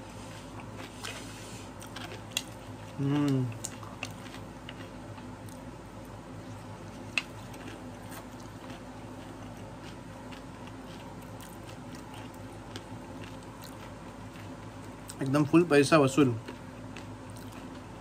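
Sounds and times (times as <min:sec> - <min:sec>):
person chewing crunchy food: 0:00.0 - 0:15.5, 0:16.2 - 0:18.0
steady low hum: 0:00.0 - 0:18.0.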